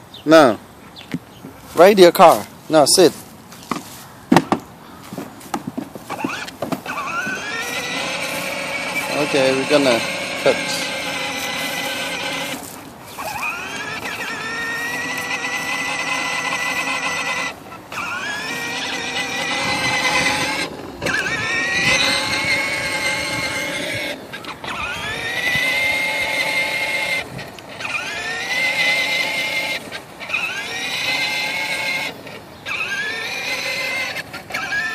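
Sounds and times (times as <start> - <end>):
toy truck electric motor whining: 6.0 - 34.9.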